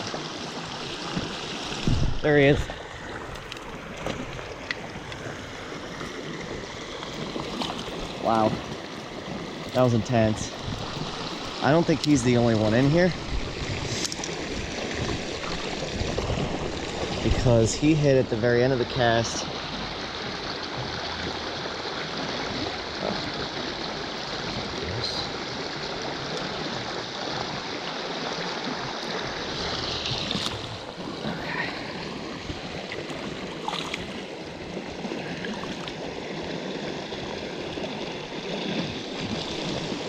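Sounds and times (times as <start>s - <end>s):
water rushing over rapids: 0.0s - 40.0s.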